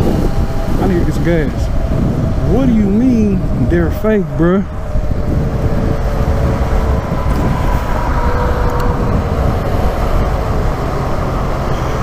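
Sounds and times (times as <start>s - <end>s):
wind rush over microphone: 0.0s - 12.0s.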